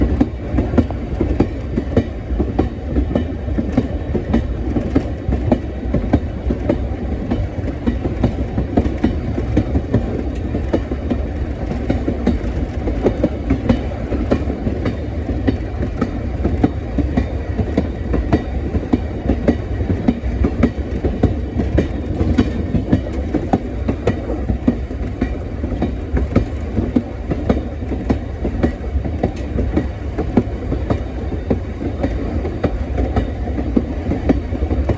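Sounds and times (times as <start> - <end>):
train rumbling along track: 0.0 - 34.9
wheels clicking over rail joints: 0.1 - 34.9.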